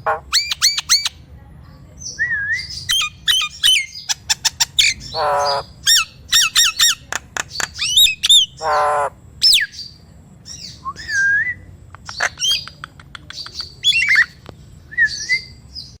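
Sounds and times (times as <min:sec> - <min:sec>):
myna calling with clicks and whistles: 0:00.0 - 0:01.3, 0:02.0 - 0:16.0.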